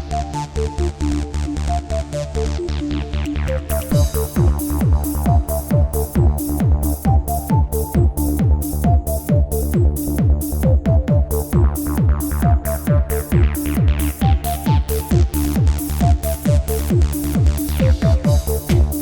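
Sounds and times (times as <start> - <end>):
electronic dance music: 1.4 - 19.0.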